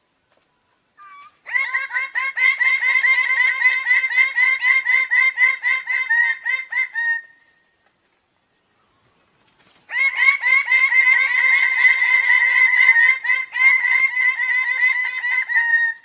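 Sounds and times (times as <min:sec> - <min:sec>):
bird calling repeated notes: 0:01.0 - 0:07.8, 0:09.9 - 0:16.0.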